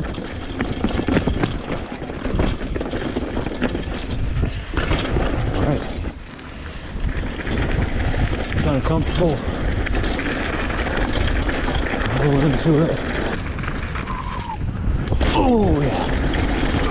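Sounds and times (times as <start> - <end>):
mountain bike rattling over dirt: 0.0 - 16.9
wind rumble on microphone: 0.0 - 16.9.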